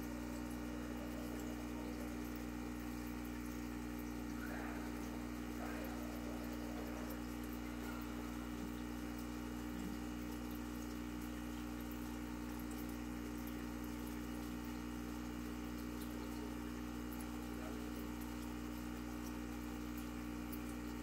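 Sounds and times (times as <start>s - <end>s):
aquarium pump humming: 0.0s - 21.0s
water trickling: 0.0s - 21.0s.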